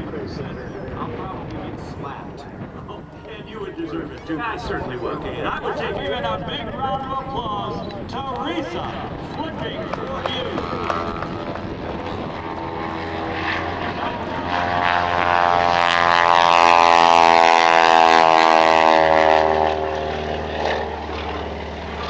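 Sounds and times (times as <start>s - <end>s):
biplane engine and propeller passing: 0.0s - 22.0s.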